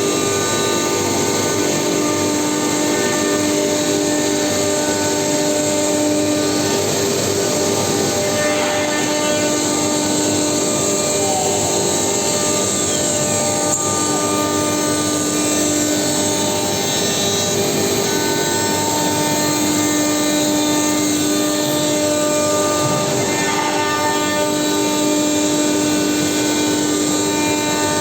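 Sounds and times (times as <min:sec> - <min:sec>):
router spindle whine: 0:00.0 - 0:28.0
wood cutting rush: 0:00.0 - 0:28.0.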